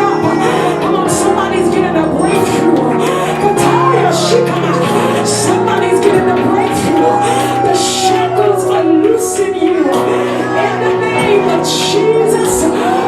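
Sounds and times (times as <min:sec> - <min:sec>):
soloist singing long notes: 0:00.0 - 0:13.0
sustained keyboard chords: 0:00.0 - 0:13.0.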